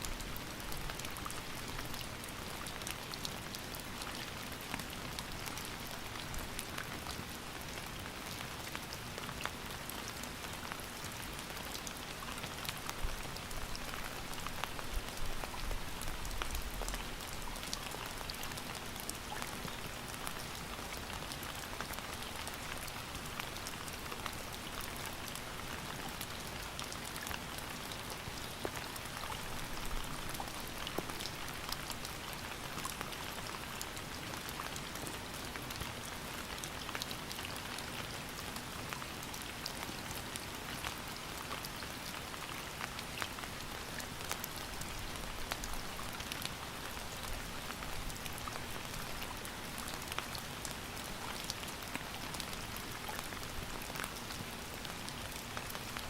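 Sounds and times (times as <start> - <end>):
rain falling: 0.0 - 56.0
raindrops ticking on a surface: 0.0 - 56.0.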